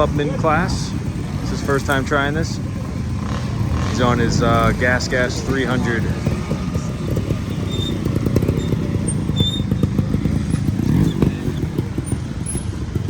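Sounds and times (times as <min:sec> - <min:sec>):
off-road motorcycle engine revving: 0:00.0 - 0:13.0.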